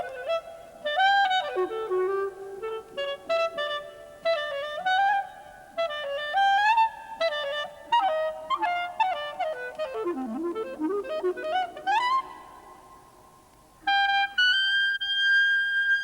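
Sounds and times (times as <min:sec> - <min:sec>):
clarinet solo melody: 0:00.0 - 0:12.7, 0:13.8 - 0:16.0.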